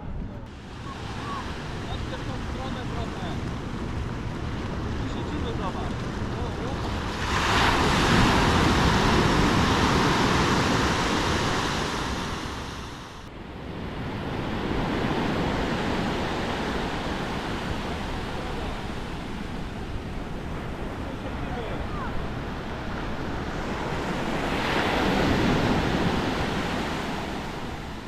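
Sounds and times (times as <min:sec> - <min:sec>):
wind buffeting microphone: 0:00.0 - 0:28.0
sea waves breaking on shore: 0:00.5 - 0:28.0.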